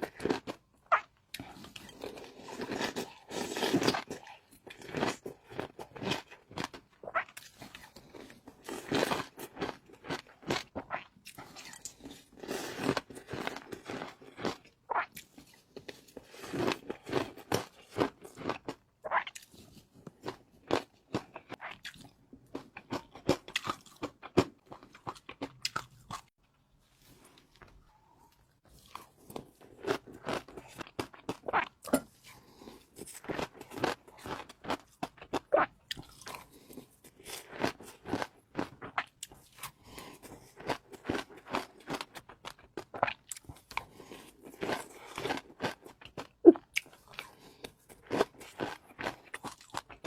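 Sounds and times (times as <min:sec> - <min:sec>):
person chewing crunchy food: 0:00.0 - 0:26.4, 0:27.2 - 0:50.0.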